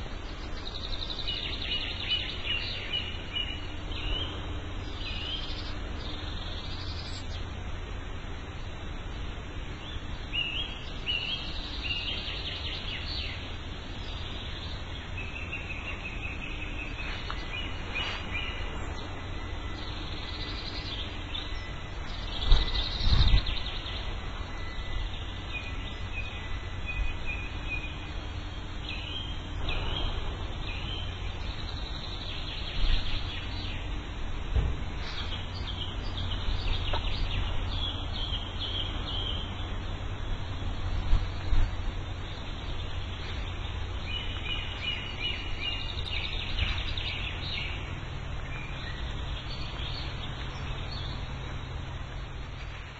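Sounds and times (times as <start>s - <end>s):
birds chirping and trilling: 0.0s - 7.7s, 8.5s - 52.9s
low background rumble: 0.0s - 52.9s.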